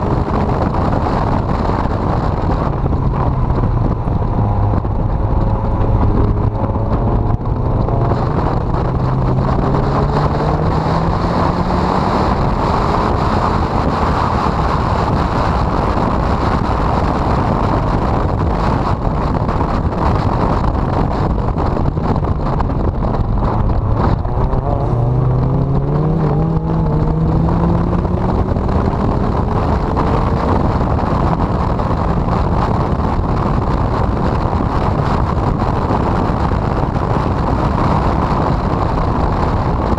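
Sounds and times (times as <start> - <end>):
car engine revving: 0.0 - 39.9
wind noise on microphone: 0.0 - 39.9.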